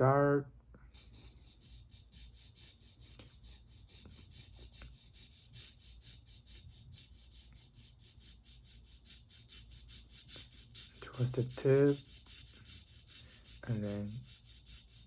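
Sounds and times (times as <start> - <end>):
blade scraping on sharpening stone: 0.9 - 15.0.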